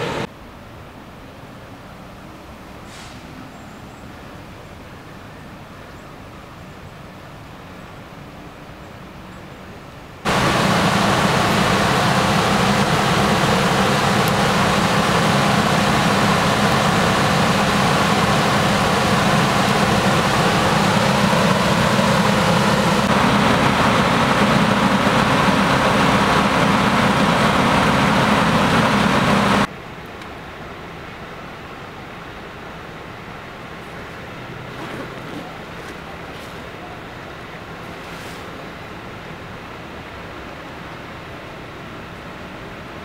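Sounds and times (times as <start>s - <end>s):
loud engine hum and hiss: 0.0s - 0.3s, 1.8s - 8.5s, 10.2s - 43.0s.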